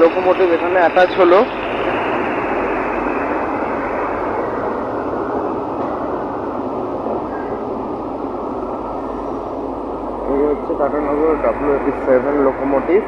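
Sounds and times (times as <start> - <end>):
locomotive cooling blowers humming: 0.0 - 13.0.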